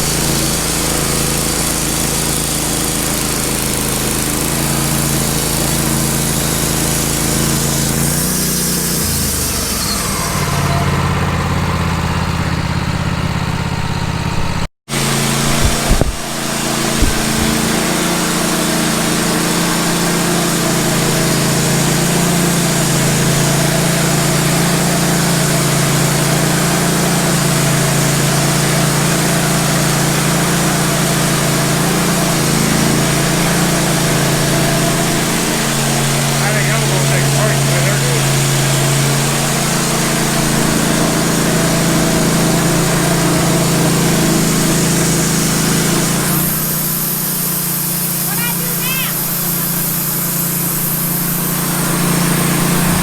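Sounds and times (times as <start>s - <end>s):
small gasoline engine running: 0.0s - 53.0s.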